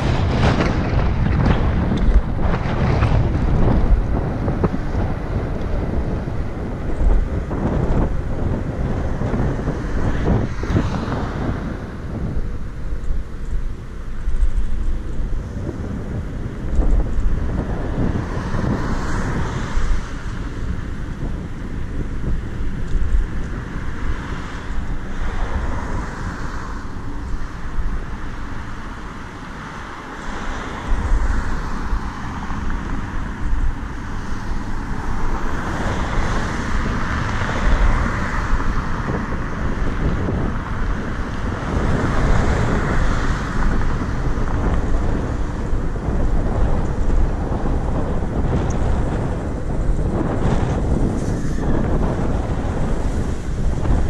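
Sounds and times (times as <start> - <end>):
road and traffic noise: 0.0 - 54.0
wind buffeting microphone: 0.0 - 54.0.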